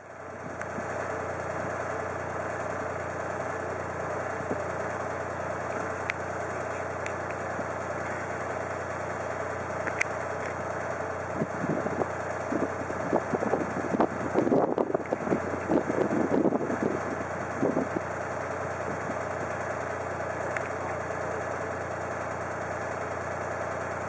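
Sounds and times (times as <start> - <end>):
low hum: 0.0 - 24.0
motor running: 0.0 - 24.0.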